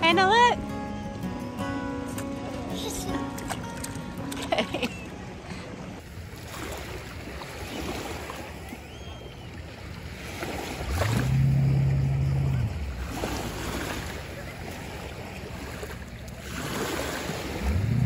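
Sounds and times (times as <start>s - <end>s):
waves washing onto shore: 3.1s - 18.0s.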